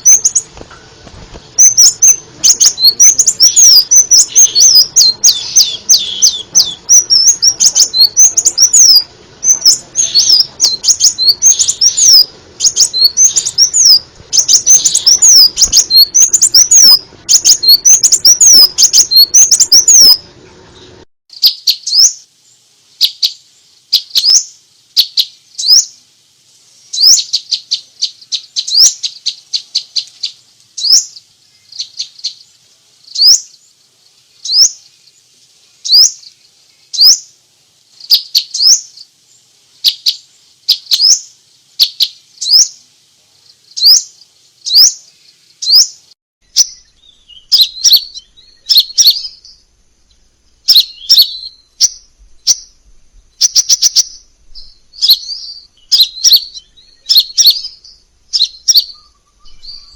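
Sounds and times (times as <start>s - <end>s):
bird chirping and trilling: 0.0s - 0.5s, 1.6s - 20.2s, 20.8s - 22.3s, 23.0s - 26.0s, 26.9s - 35.2s, 35.8s - 37.3s, 38.0s - 39.1s, 39.8s - 42.8s, 43.5s - 49.7s, 50.6s - 59.9s.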